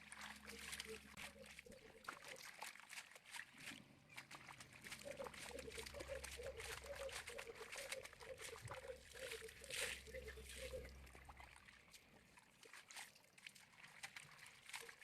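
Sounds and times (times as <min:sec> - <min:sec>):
small clicks and drips: 0:00.0 - 0:15.0
water trickling and splashing: 0:00.0 - 0:15.0.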